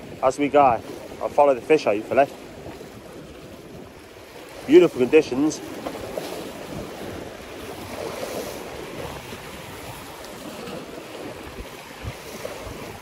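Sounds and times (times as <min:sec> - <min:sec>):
waves breaking over boulders: 0:00.0 - 0:13.0
wind buffeting microphone: 0:00.0 - 0:13.0.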